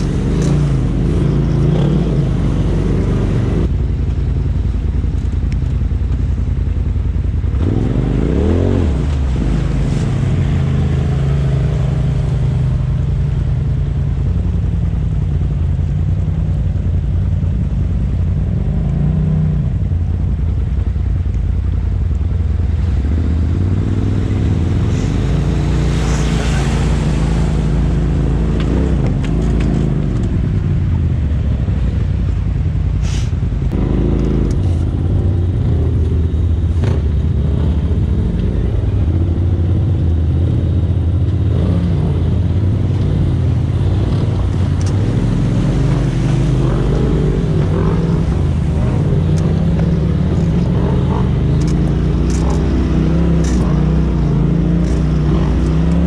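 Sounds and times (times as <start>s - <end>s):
off-road vehicle engine: 0.0s - 56.0s.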